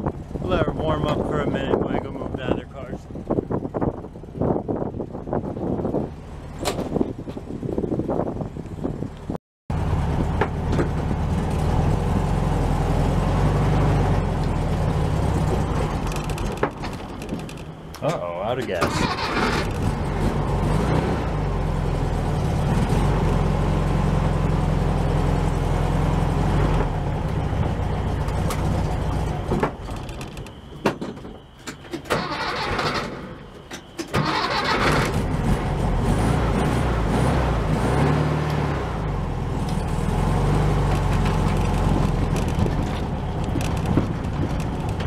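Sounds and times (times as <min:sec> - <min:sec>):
car engine running: 0:00.0 - 0:30.5, 0:39.0 - 0:45.0.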